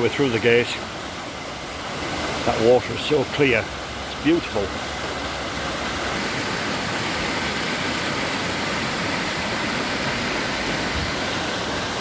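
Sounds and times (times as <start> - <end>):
fast-flowing stream rushing: 0.0 - 12.0.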